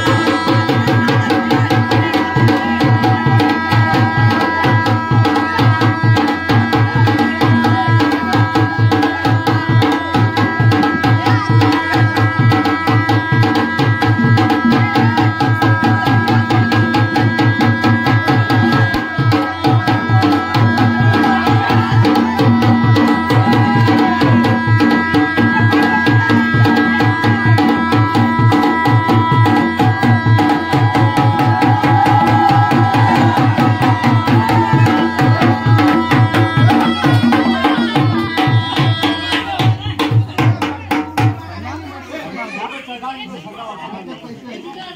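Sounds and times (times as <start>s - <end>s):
fast hand-drum beats: 0.0s - 42.1s.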